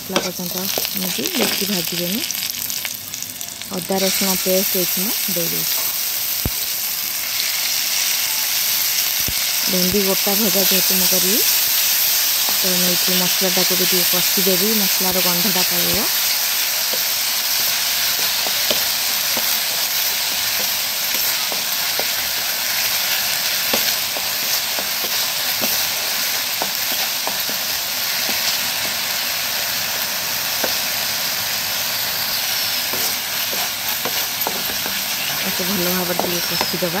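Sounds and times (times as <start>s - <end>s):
onion sizzling in hot oil: 0.0s - 37.0s.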